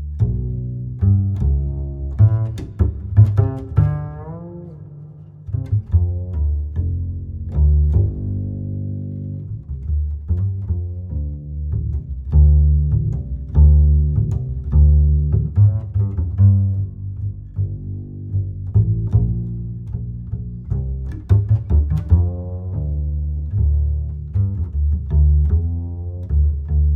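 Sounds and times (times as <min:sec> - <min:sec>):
plucked string bass line: 0:00.0 - 0:26.9.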